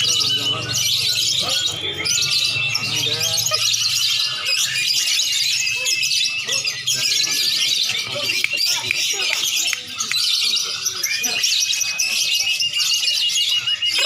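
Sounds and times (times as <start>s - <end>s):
caged birds chirping and trilling: 0.0s - 14.0s.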